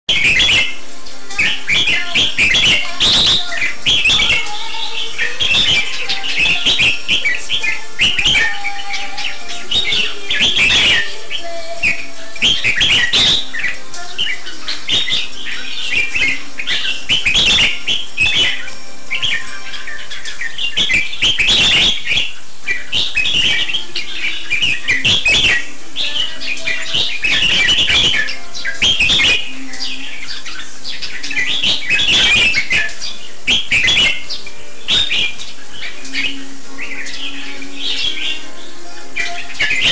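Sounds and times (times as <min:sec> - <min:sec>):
bird singing chirpy phrases: 0:00.1 - 0:39.9.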